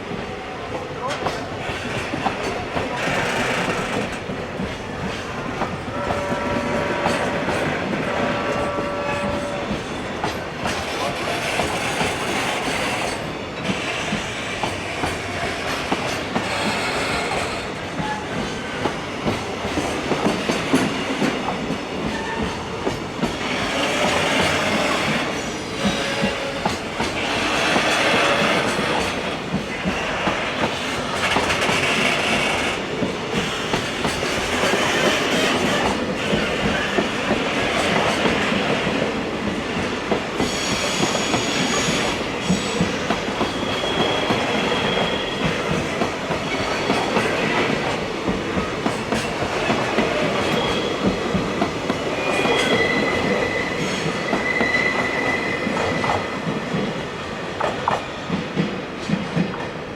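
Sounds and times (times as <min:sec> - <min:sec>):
train wagons clickety-clack: 0:00.0 - 0:59.9.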